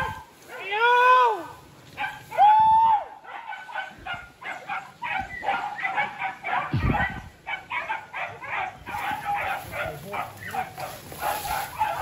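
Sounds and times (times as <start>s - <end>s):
dogs barking and yelping: 0.0s - 0.4s, 1.9s - 2.5s, 3.1s - 12.0s.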